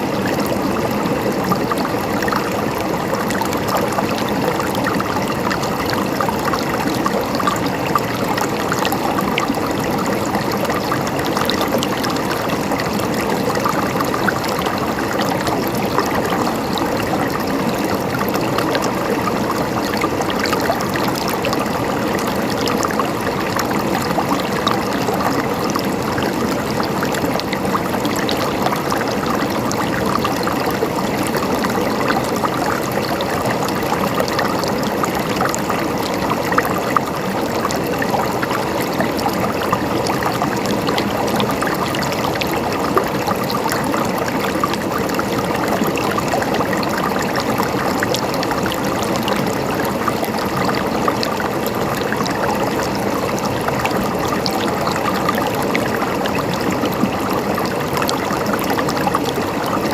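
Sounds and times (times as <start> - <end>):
river water splashing over rocks: 0.0 - 59.9.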